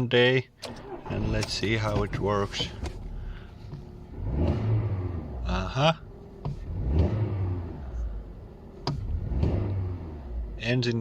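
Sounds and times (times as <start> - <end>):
car engine revving: 0.6 - 11.0.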